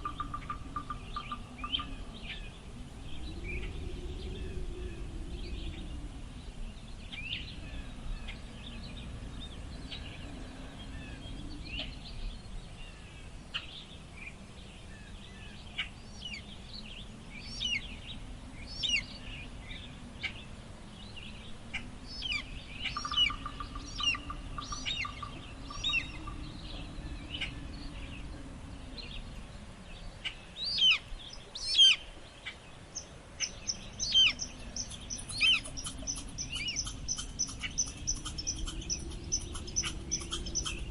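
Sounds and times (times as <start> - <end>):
birds chirping: 0.0 - 40.9
wind blowing: 0.0 - 40.9.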